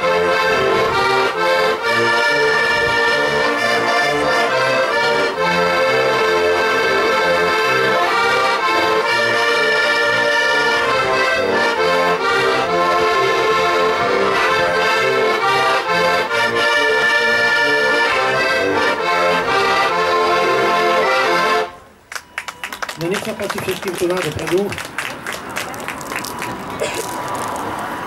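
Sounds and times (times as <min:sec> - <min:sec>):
button accordions playing folk tune: 0:00.0 - 0:24.7.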